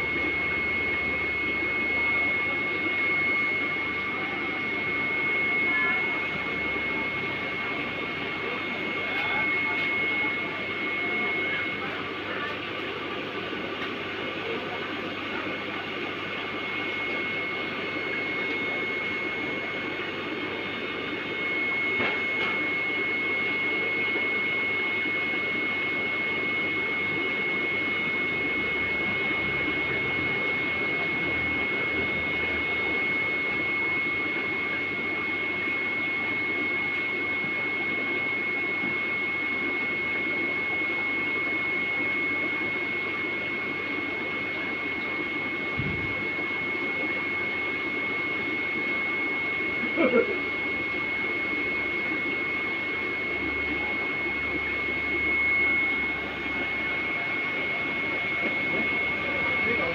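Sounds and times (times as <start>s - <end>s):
steady high whine: 0.0s - 59.9s.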